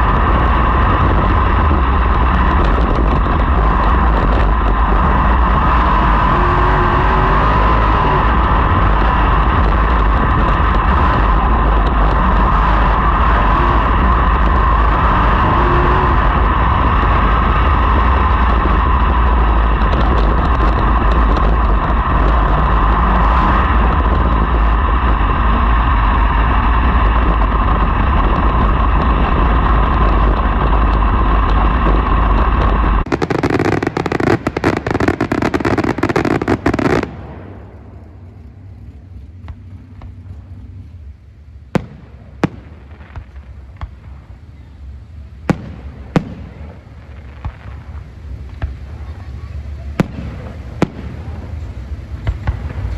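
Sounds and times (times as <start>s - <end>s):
race car engines running flat out: 0.0s - 42.9s
fireworks popping and crackling: 0.0s - 52.9s.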